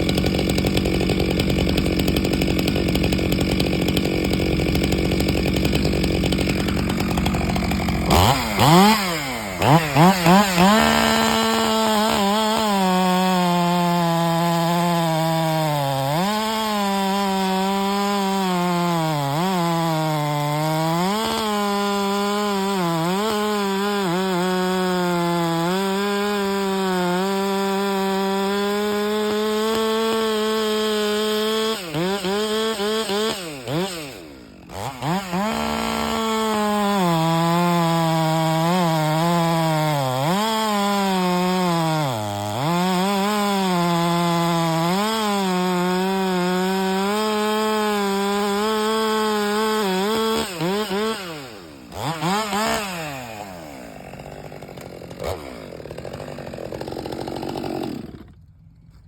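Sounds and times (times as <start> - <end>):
chainsaw cutting wood: 0.0 - 59.0
chainsaw throttle blips: 0.0 - 59.0.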